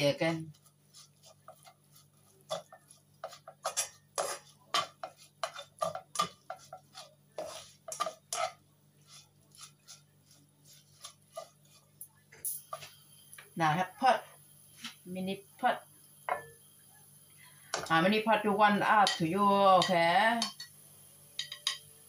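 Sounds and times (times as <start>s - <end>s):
spatula scraping and tapping wok: 0.5s - 13.5s, 16.2s - 16.7s, 17.6s - 22.0s.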